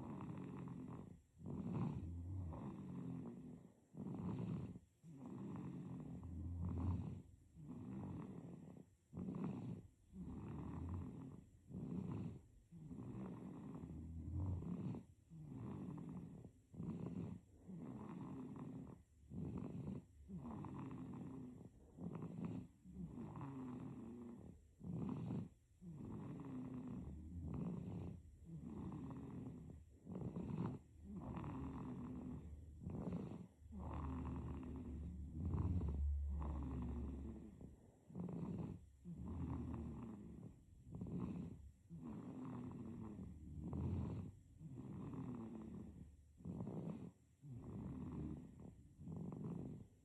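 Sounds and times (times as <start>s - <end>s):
baby snoring: 0.0s - 50.0s.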